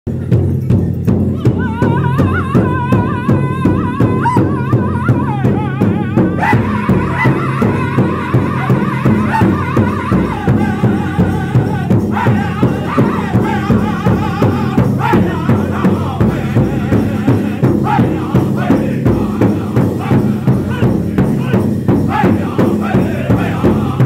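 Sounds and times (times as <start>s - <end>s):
large drum steady beat: 0.1s - 24.0s
men singing together: 1.4s - 24.0s.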